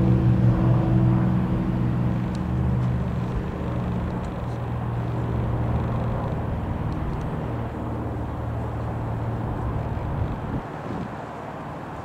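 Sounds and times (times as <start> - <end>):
wind buffeting microphone: 0.0 - 11.3
light aircraft engine drone: 0.0 - 12.0.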